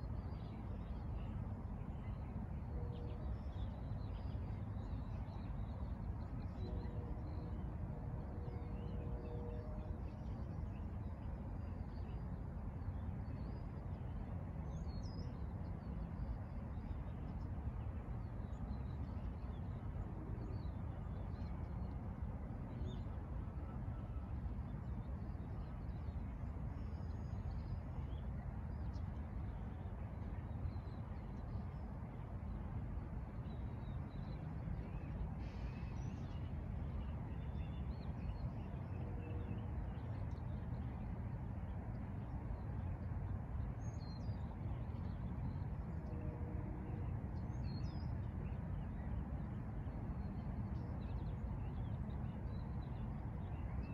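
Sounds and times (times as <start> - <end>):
low outdoor rumble: 0.0 - 53.9.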